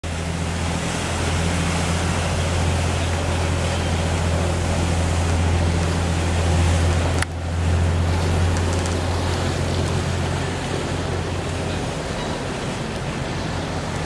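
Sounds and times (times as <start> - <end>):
boat engine drone: 0.0 - 14.0
rushing water: 0.0 - 14.0.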